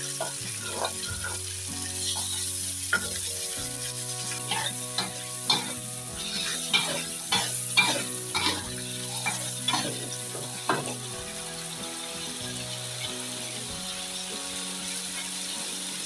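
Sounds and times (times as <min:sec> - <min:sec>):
metal spatula scraping a wok: 0:00.0 - 0:13.6
paste sizzling in hot oil: 0:00.0 - 0:16.0.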